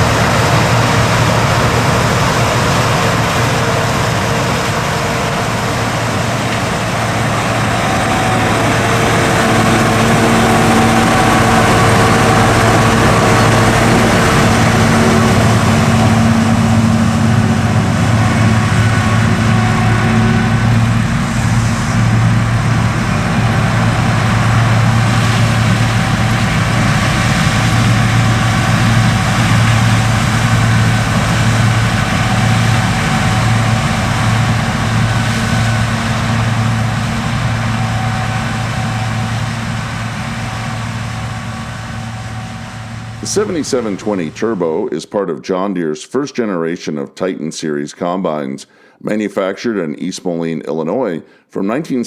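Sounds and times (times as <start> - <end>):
diesel engine humming: 0.0 - 44.9
steady tones: 0.0 - 45.0.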